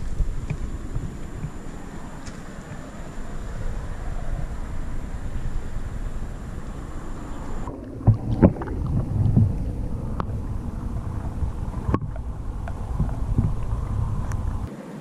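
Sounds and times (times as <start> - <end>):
muffled underwater rumble: 0.0 - 14.7
wind on microphone: 0.0 - 15.0.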